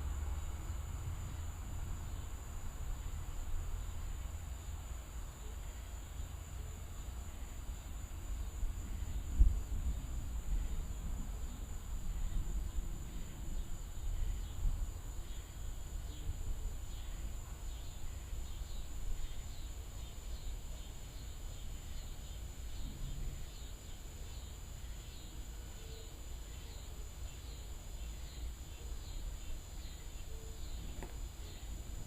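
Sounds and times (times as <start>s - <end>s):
high insect drone: 0.0s - 32.0s
night insects chirping: 0.0s - 32.0s.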